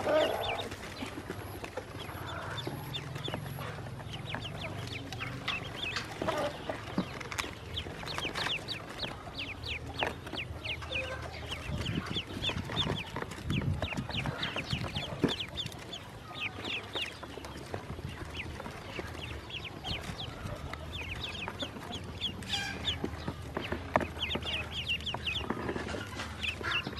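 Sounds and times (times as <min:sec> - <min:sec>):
ducklings peeping: 0:00.0 - 0:26.9.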